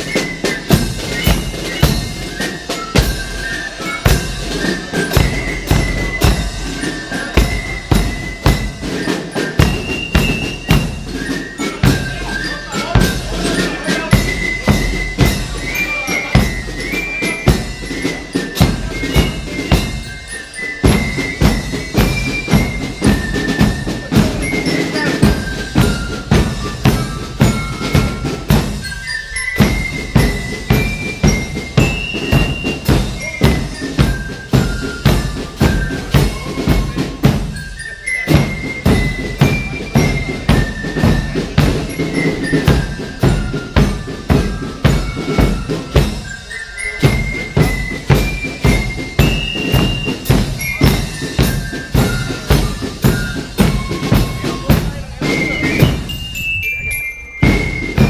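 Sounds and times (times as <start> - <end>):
snare and bass drums: 0.0 - 56.5, 57.4 - 58.0
drum and fife corps march: 0.0 - 58.0.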